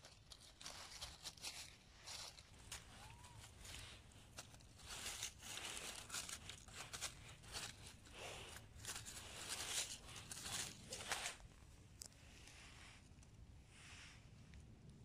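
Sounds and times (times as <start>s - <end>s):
leaves rustling and crunching: 0.0s - 12.8s.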